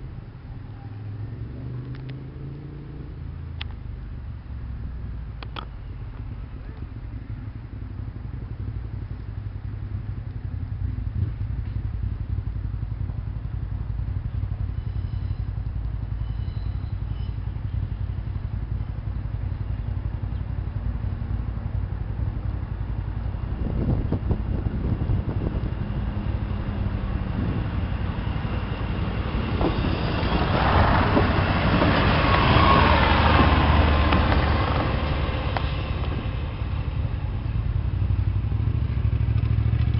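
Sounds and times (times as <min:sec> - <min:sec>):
diesel train engine rumbling: 0:00.0 - 0:01.9, 0:03.0 - 0:39.9.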